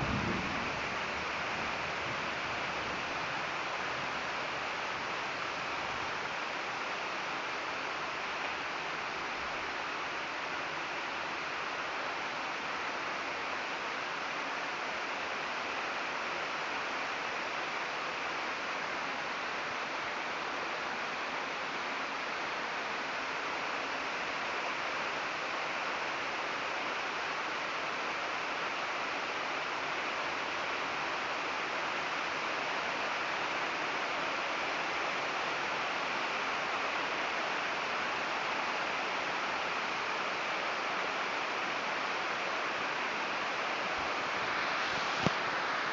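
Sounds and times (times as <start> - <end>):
heavy rain on foliage: 0.0 - 45.9.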